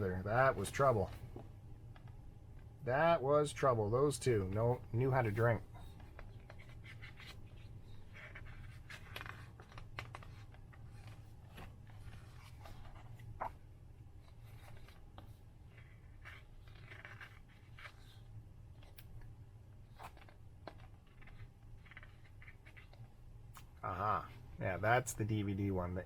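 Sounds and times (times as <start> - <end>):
low steady hum: 0.0 - 26.0
book pages rustling: 4.4 - 26.0.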